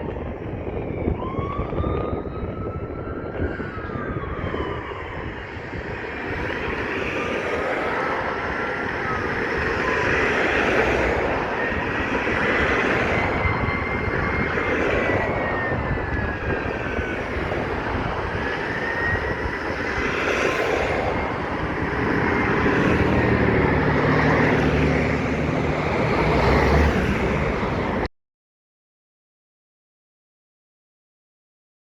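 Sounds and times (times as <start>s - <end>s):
diesel engines rumbling: 0.0s - 28.1s
sirens wailing: 0.0s - 28.1s.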